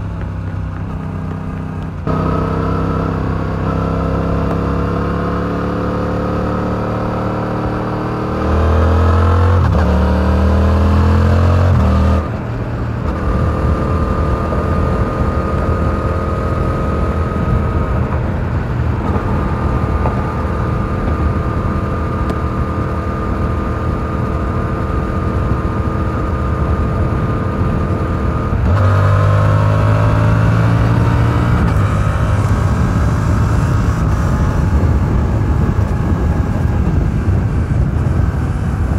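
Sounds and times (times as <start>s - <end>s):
motorcycle exhaust accelerating: 0.0s - 38.9s.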